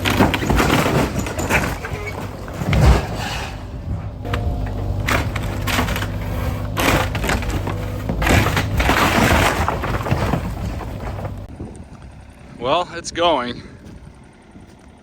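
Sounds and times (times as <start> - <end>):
wood cracking and splintering: 0.0 - 12.1
machine engine humming: 0.0 - 15.0.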